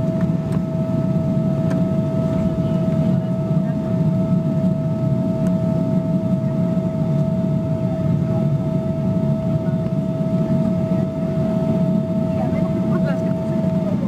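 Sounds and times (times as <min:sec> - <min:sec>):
jet engines idling: 0:00.0 - 0:14.0.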